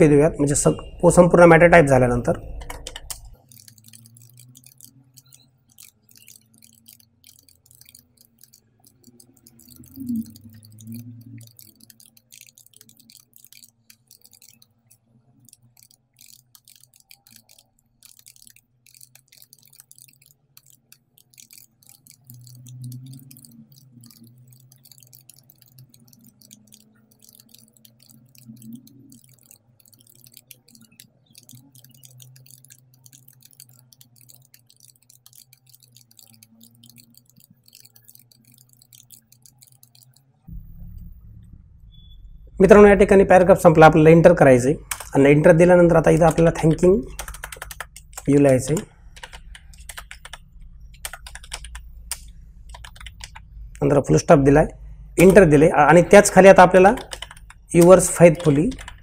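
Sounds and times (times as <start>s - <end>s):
fast typing on keyboard: 0.6s - 41.1s, 41.9s - 59.0s
low steady hum: 0.7s - 59.0s.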